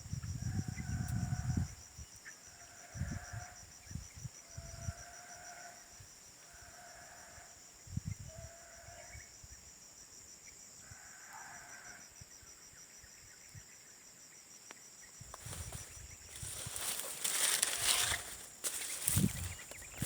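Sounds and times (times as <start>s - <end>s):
high insect trill: 0.0s - 20.0s.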